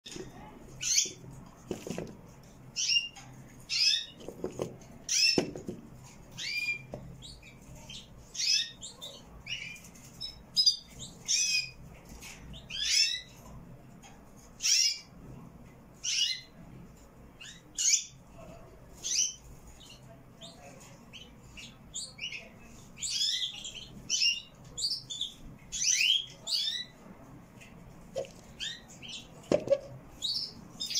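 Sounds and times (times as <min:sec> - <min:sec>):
canaries chirping: 0:00.1 - 0:15.2, 0:15.9 - 0:30.9.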